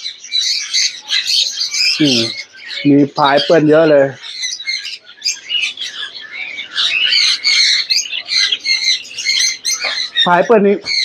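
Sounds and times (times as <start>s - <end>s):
parrots squawking and chirping: 0.0s - 11.0s.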